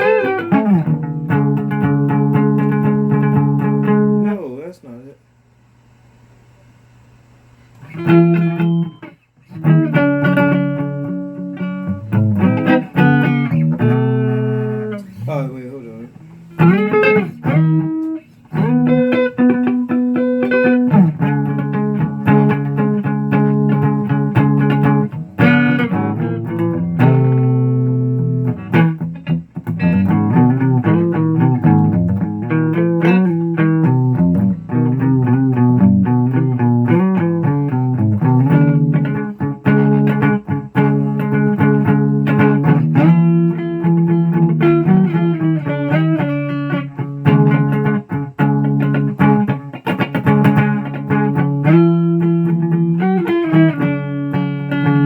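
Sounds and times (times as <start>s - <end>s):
guitar playing picked notes: 0.0s - 4.4s, 7.8s - 55.0s.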